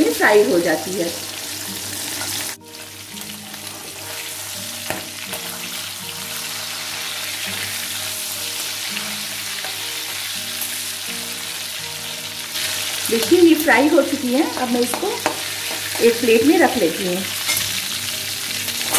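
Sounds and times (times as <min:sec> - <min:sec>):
fish sizzling in hot oil: 0:00.0 - 0:18.9
soft background tune: 0:00.0 - 0:18.9.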